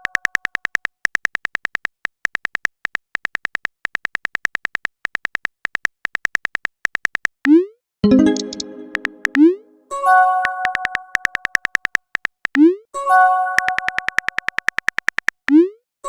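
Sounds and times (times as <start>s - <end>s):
keyboard typing clicks: 0.0s - 9.6s, 10.4s - 12.8s, 13.5s - 15.6s.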